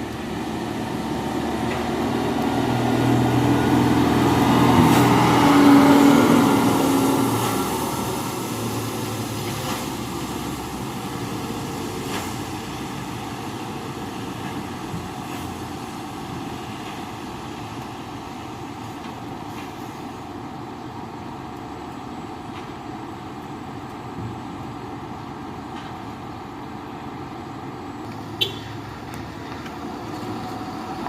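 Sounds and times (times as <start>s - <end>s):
dump truck driving past: 0.0s - 31.0s.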